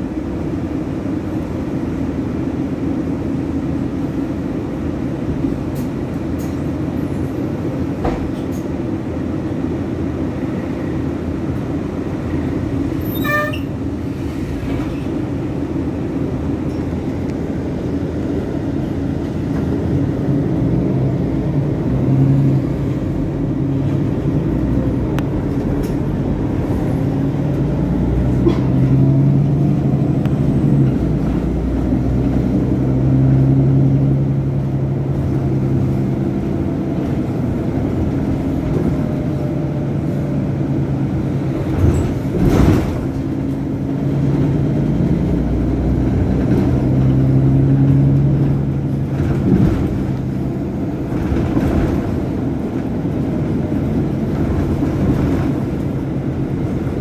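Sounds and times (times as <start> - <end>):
bus engine humming: 0.0 - 57.0.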